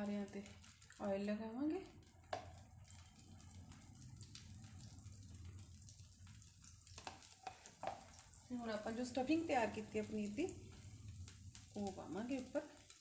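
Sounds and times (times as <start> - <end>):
faint sizzling in frying pan: 0.0 - 13.0.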